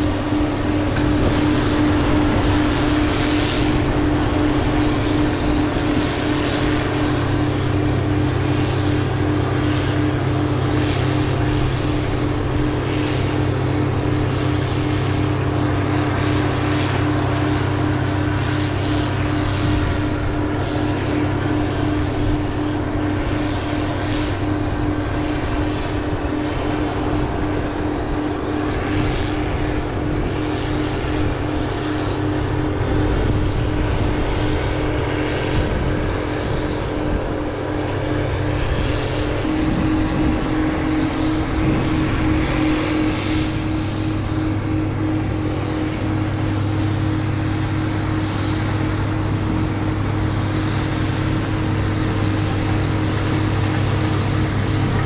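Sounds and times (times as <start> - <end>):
drone motors humming: 0.0 - 55.0.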